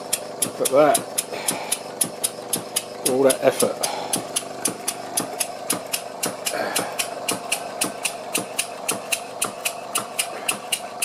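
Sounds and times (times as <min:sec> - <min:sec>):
model steam engine running: 0:00.0 - 0:11.0
regular engine clunk: 0:00.0 - 0:11.0.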